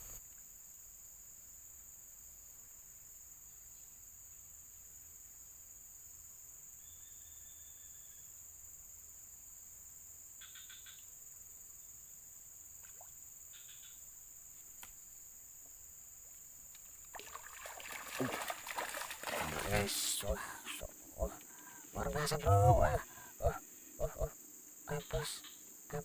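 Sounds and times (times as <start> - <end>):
crickets droning: 0.0 - 26.0.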